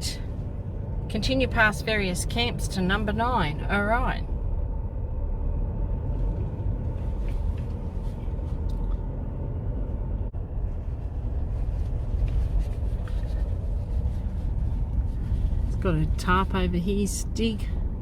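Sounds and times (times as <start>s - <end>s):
vehicle road noise rumble: 0.0s - 18.0s.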